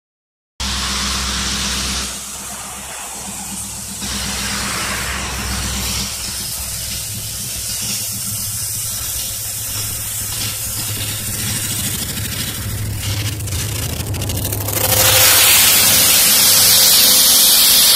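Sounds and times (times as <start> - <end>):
hiss of traffic noise: 0.6 - 17.9
low hum: 0.6 - 17.9.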